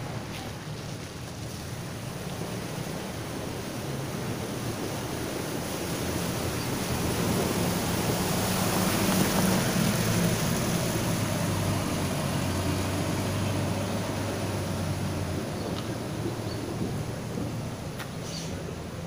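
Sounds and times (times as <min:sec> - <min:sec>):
street traffic hiss: 0:00.0 - 0:19.0
vehicle engine running low: 0:00.0 - 0:19.0
wind: 0:00.0 - 0:19.0.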